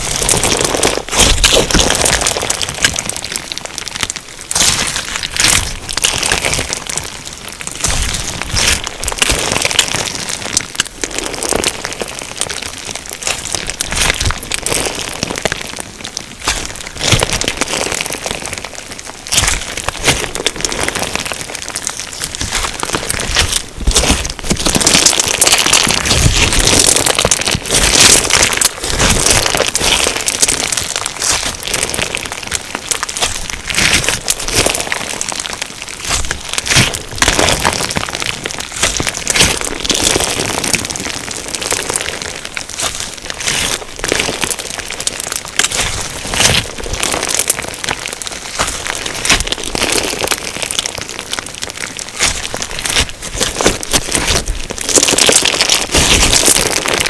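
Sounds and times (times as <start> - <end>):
crunchy slime crackling and popping: 0.0 - 57.0.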